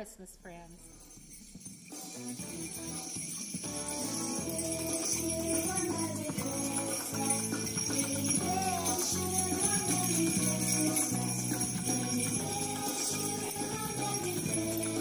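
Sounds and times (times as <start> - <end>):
jingle bells shaken: 0.3 - 15.0
recorded instrumental music: 0.9 - 15.0.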